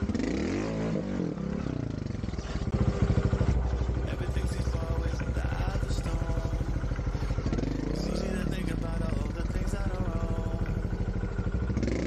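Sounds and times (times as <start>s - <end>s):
motorcycle engine chugging at low revs: 0.0s - 12.0s.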